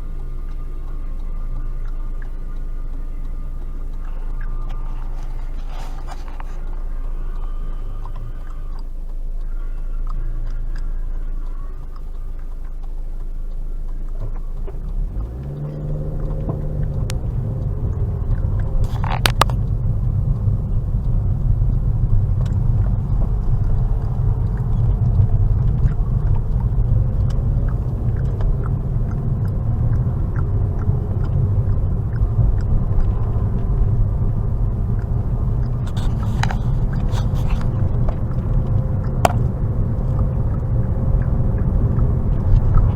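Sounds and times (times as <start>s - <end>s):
car engine: 0.0s - 42.9s
road noise: 0.0s - 42.9s.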